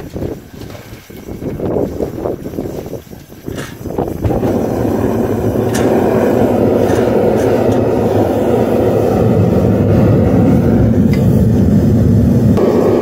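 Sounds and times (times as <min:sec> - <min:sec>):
gas burner igniting: 0:00.0 - 0:13.0
gas burner rushing: 0:00.0 - 0:13.0.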